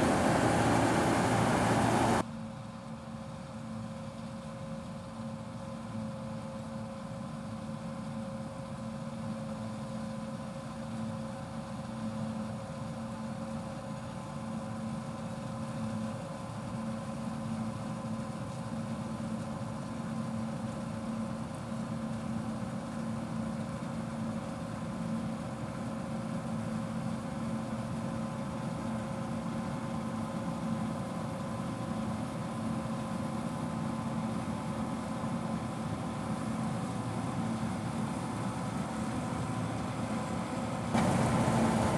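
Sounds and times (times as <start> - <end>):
combine harvester drone: 0.0 - 41.9.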